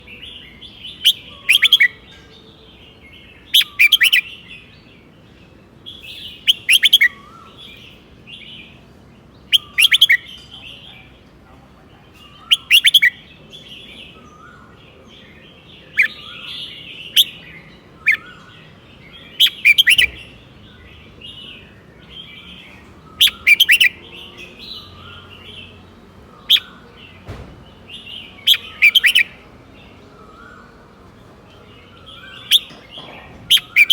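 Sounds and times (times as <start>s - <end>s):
bird singing sharp phrases: 0.0s - 33.9s
soft bird chattering: 0.9s - 2.3s, 3.4s - 4.4s, 5.9s - 8.7s, 9.5s - 14.8s, 15.9s - 33.9s.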